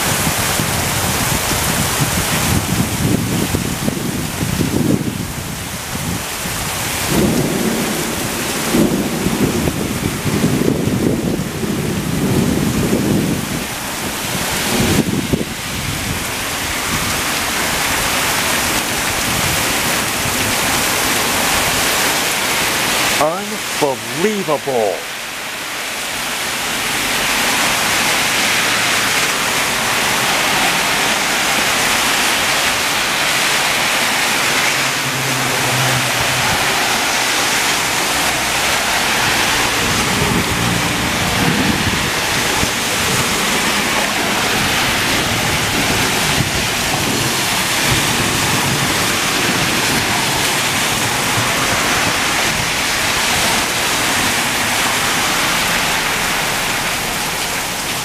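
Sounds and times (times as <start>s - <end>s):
cars passing through water: 0.0s - 58.0s
heavy rain pouring: 0.0s - 58.0s.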